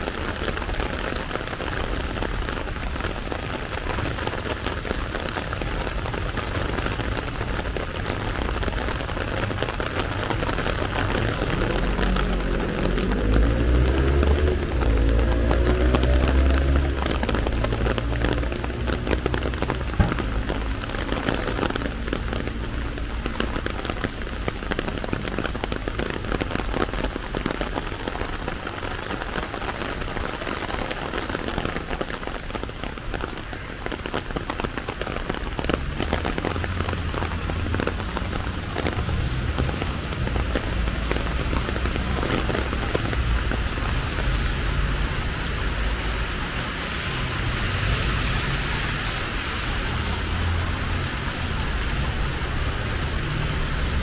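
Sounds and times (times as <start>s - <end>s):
rain splashing on pavement: 0.0s - 54.0s
rain tapping on umbrella: 0.0s - 54.0s
road traffic rumble: 0.0s - 54.0s.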